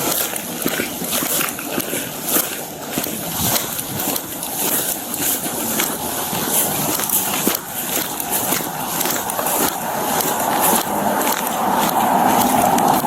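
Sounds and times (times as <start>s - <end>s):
clothing and gear rustling: 0.0s - 13.0s.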